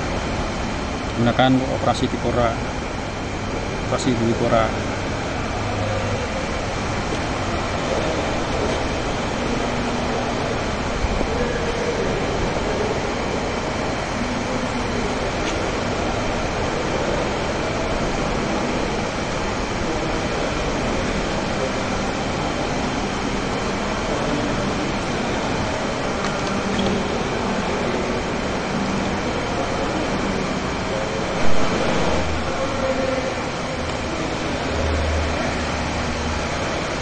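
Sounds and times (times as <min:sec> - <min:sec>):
faint voices: 0:00.0 - 0:37.0
steady background noise: 0:00.0 - 0:37.0.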